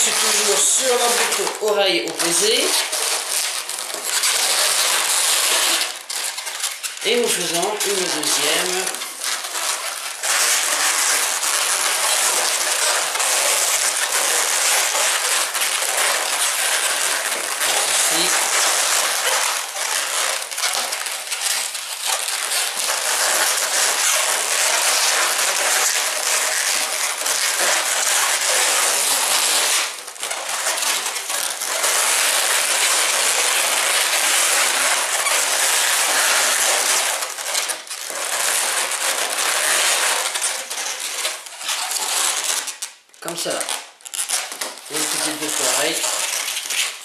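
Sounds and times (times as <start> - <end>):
balloons squeaking and rubbing: 0.0 - 47.0.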